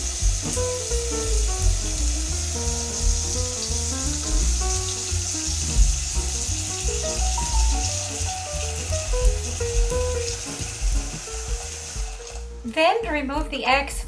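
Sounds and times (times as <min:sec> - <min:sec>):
tap water pouring into pan: 0:00.0 - 0:12.5
background music: 0:00.0 - 0:14.0.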